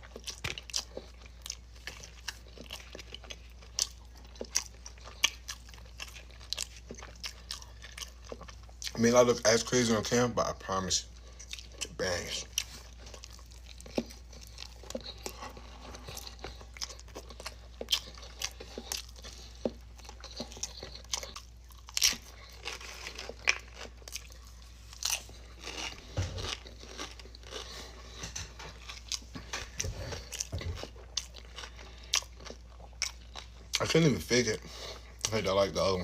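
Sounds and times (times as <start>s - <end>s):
chewing crunchy bread: 0.0s - 36.0s.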